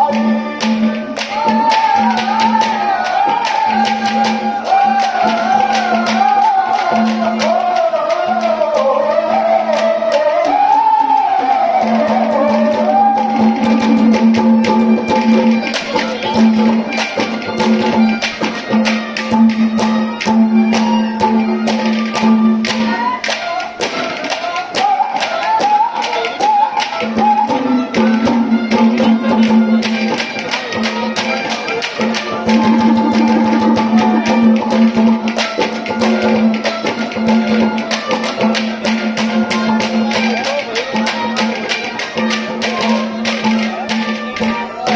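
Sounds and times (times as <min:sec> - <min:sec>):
sharp percussion strokes: 0:00.0 - 0:44.9.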